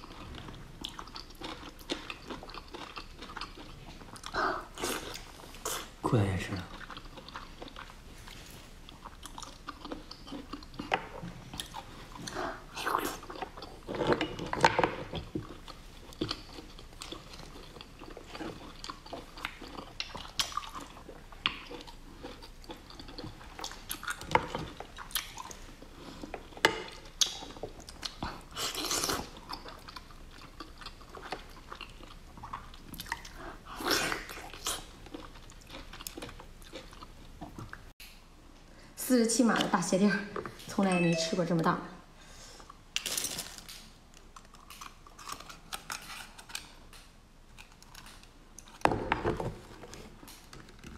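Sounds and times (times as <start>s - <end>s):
chewing: 0.0s - 37.9s, 42.6s - 48.8s.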